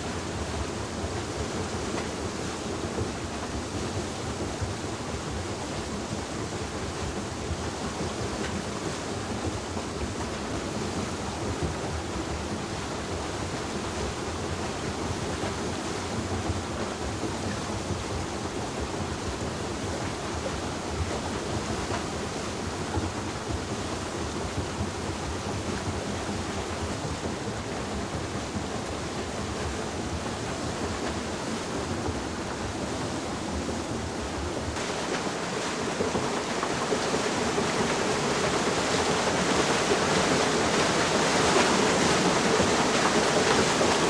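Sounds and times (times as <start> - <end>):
water splashing off waterwheel: 0.0 - 44.0.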